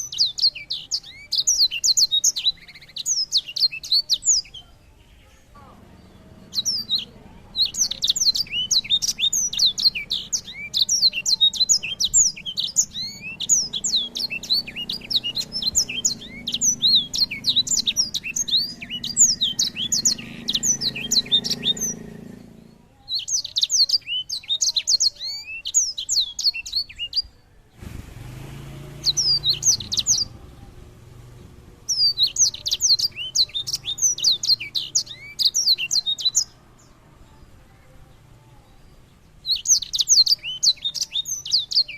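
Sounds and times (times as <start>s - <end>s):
songbird twittering and trilling: 0.0s - 41.9s.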